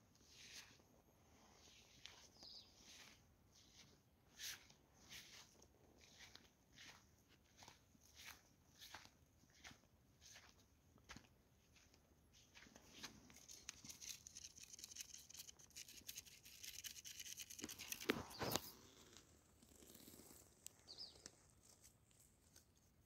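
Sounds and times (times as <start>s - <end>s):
scratching on sandy ground: 0.1s - 23.0s.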